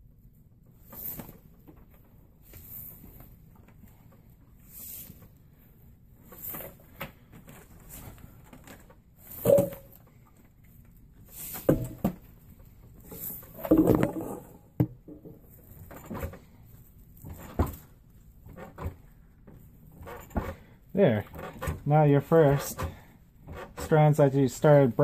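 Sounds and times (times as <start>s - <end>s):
braiding strands rustling and knocking: 0.0s - 25.0s.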